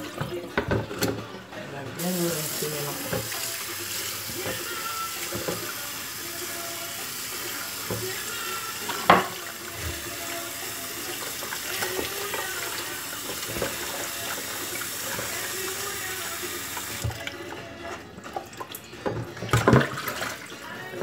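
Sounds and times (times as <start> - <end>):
tap water splashing into sink: 0.0 - 1.2, 2.0 - 17.4, 18.3 - 20.5.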